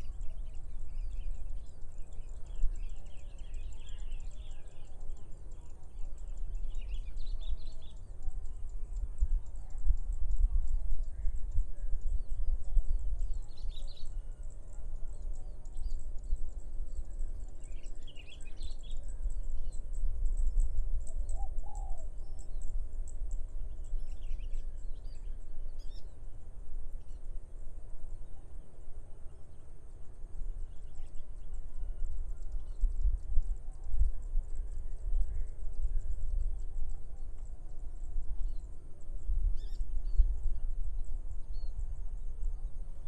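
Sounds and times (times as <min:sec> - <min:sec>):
birds chirping: 0:00.0 - 0:43.0
constant high-pitched buzz: 0:00.0 - 0:43.0
wind rumble on microphone: 0:00.0 - 0:43.0.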